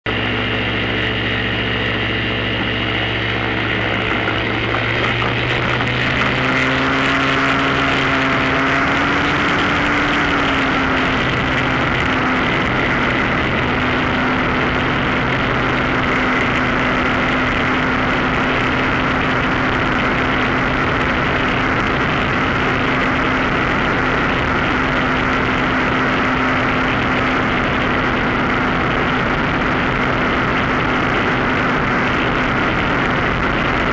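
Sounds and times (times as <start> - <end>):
two-stroke engine driving propeller: 0.1 - 33.9.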